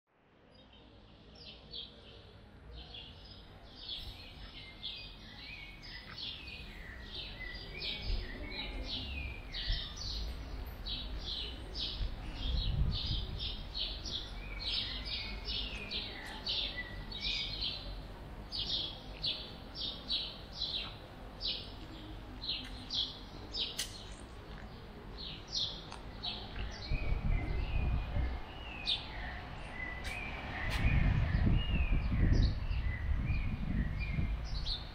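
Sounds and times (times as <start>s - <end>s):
small birds chirping: 0.5s - 34.9s.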